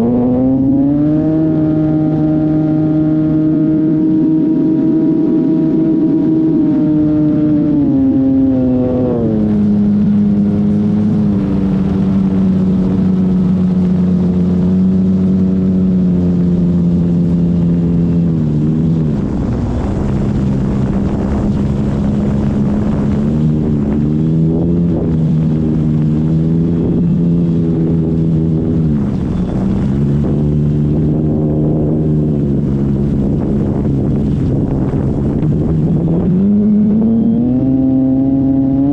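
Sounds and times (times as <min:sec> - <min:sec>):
rushing wind noise: 0:00.0 - 0:38.9.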